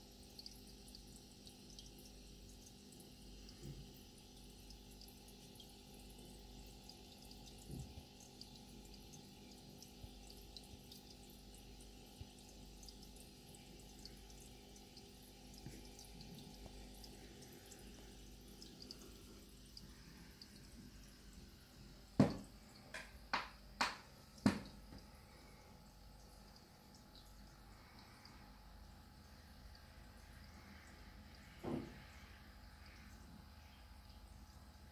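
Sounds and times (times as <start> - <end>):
low steady hum: 0.0 - 34.9
water trickling and dripping: 0.0 - 34.9.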